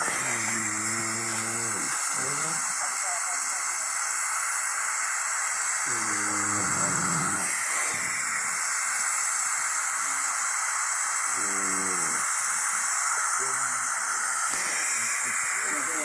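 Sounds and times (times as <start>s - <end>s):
microphone hiss: 0.0s - 3.8s, 5.2s - 16.0s.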